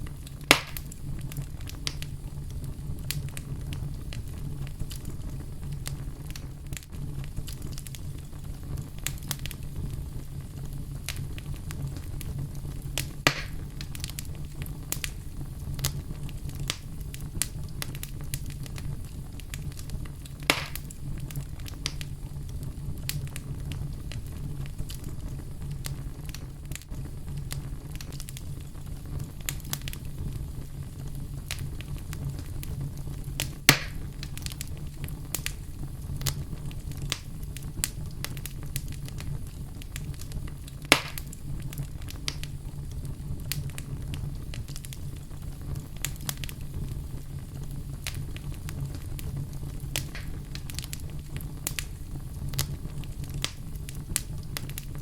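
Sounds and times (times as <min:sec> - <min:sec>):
fire burning in fireplace: 0:00.0 - 0:55.0
sharp pops of fire: 0:00.0 - 0:55.0
small crackles of fire: 0:00.0 - 0:55.0.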